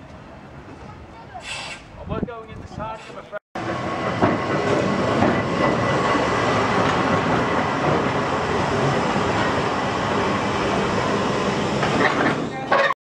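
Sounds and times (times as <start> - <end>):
tram wheels rumbling on rail: 0.0 - 12.9.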